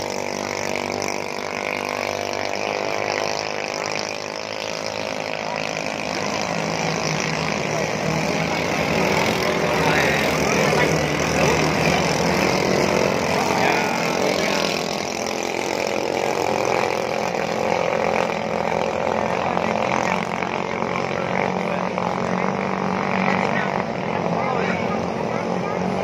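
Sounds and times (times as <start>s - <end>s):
outboard boat engines droning: 0.0s - 26.0s.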